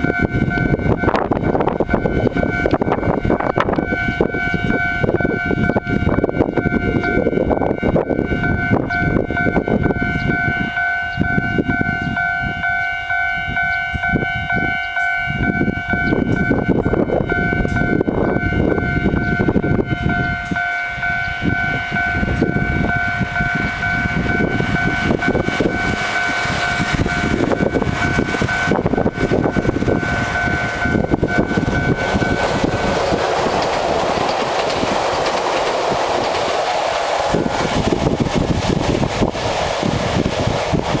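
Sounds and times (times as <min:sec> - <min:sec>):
level crossing alarm ringing: 0:00.0 - 0:38.1
train running: 0:00.0 - 0:41.0.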